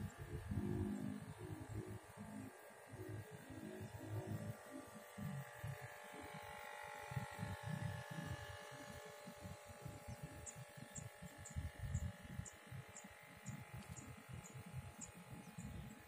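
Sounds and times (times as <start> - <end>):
small electric motor whine: 0.0 - 16.0.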